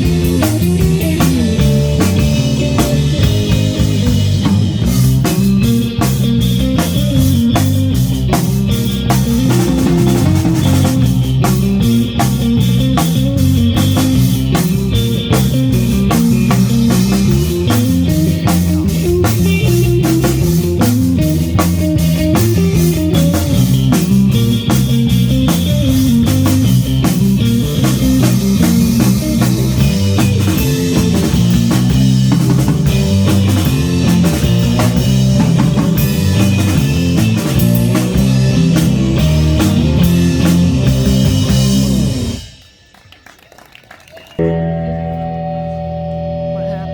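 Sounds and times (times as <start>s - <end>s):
driving drum beat: 0.0s - 43.2s
live rock band playing: 0.0s - 46.9s.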